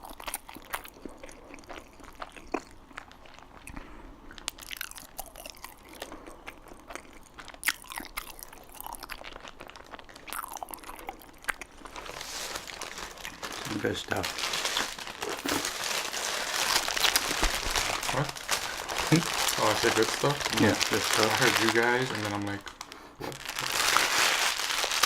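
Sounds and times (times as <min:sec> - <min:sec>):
person chewing food: 0:00.0 - 0:21.0, 0:22.7 - 0:25.0.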